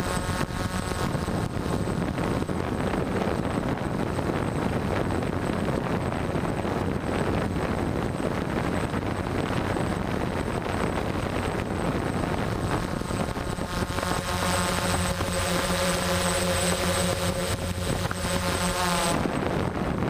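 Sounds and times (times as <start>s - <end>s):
drone propellers buzzing: 0.0s - 20.0s
steady pitched hum: 0.0s - 20.0s.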